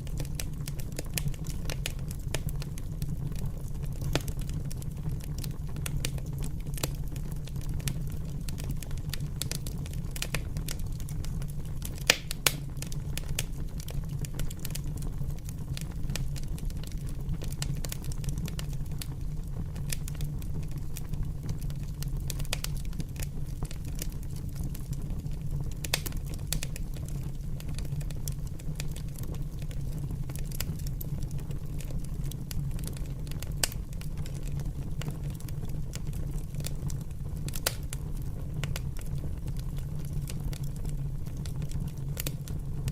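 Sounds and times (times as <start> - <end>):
fire crackling: 0.0 - 42.9.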